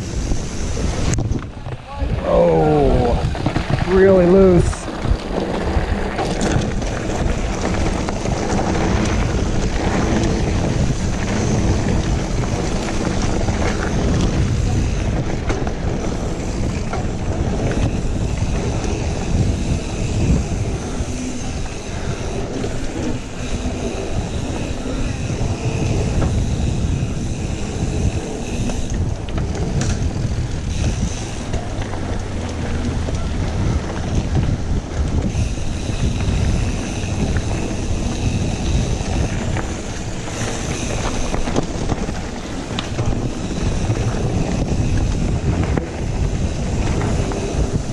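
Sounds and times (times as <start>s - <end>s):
bike tyres rumbling and rattling: 0.0s - 47.9s
wind buffeting microphone: 0.0s - 47.9s.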